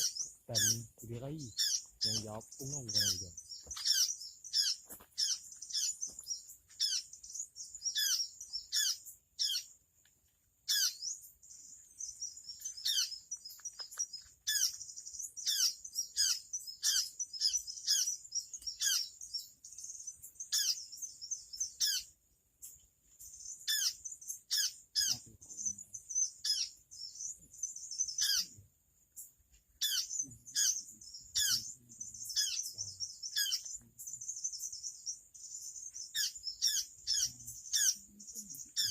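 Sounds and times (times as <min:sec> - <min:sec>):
small birds calling: 0:00.0 - 0:38.9.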